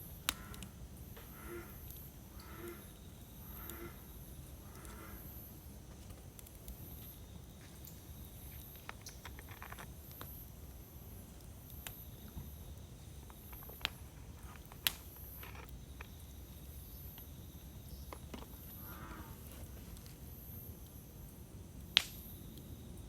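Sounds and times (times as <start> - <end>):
fire popping: 0.0 - 22.9
wood fire crackling: 0.0 - 23.0.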